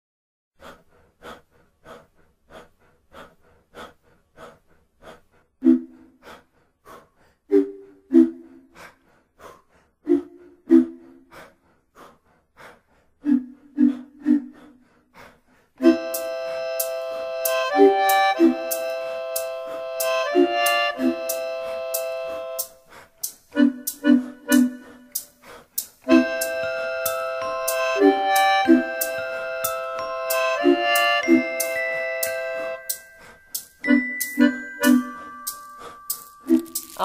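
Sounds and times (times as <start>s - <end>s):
rhythmic huffed breaths into microphone: 0.6s - 37.0s.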